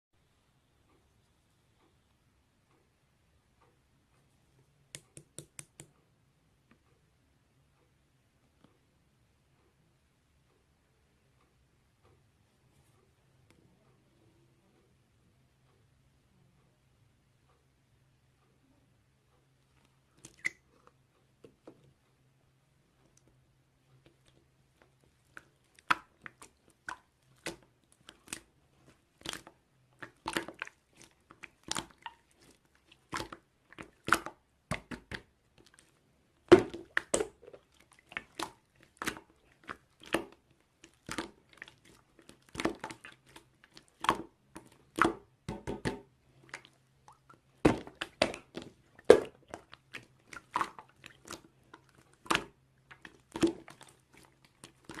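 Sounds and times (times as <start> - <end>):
faint low hum: 0.2 - 55.0.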